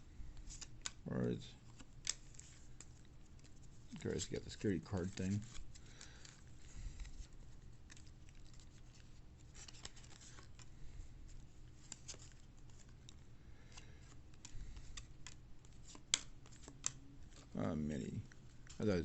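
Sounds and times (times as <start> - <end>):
cards rustling: 0.3 - 19.0.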